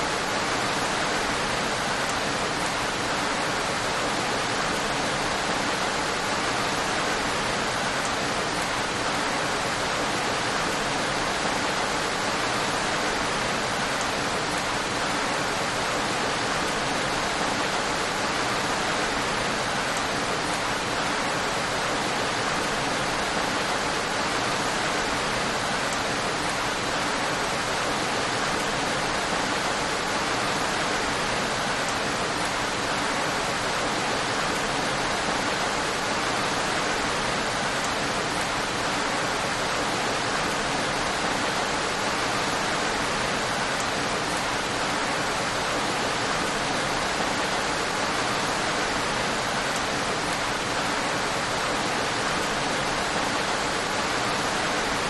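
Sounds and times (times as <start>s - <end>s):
heavy rainfall: 0.0s - 55.0s.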